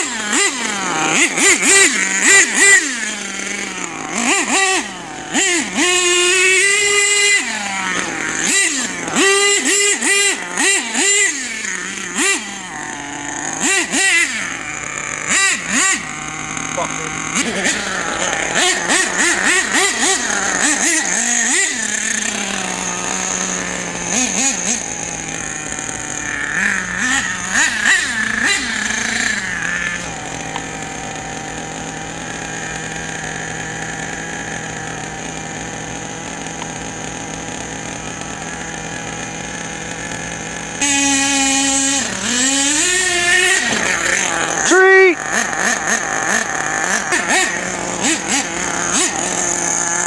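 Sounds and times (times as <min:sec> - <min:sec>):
small glow engine revving: 0:00.0 - 0:50.0.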